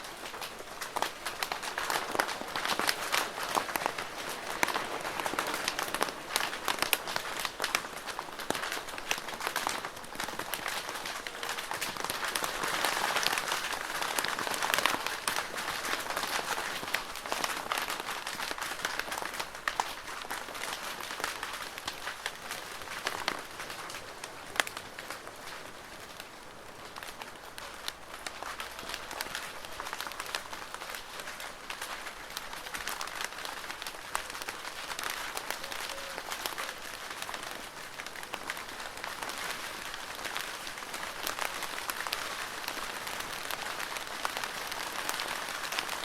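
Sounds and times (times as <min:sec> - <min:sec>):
rain on a plastic roof: 0:00.0 - 0:46.0.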